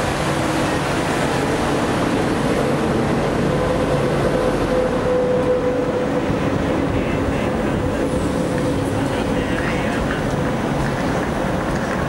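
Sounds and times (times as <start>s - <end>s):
train rolling past: 0.0s - 12.0s.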